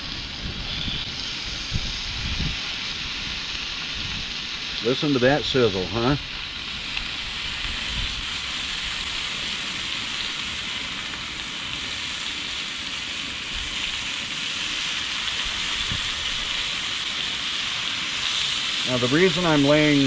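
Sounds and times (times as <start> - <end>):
bacon sizzling on griddle: 0.0 - 20.0.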